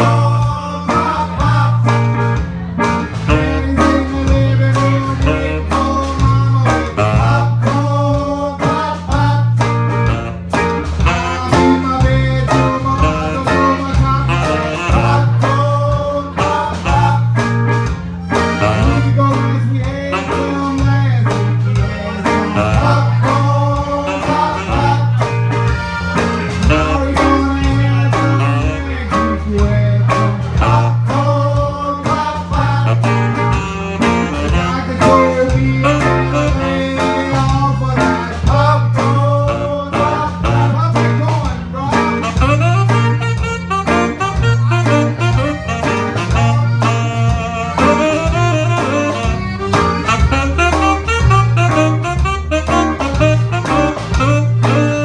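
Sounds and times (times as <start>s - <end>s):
bass line: 0.0s - 55.0s
electric guitar: 0.0s - 55.0s
steady drum beat: 0.0s - 55.0s.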